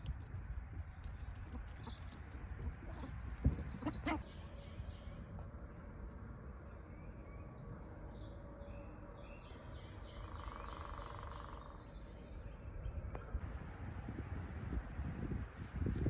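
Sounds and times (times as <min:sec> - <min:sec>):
songbirds singing: 0:00.0 - 0:13.9
steady low rumble: 0:00.0 - 0:16.0.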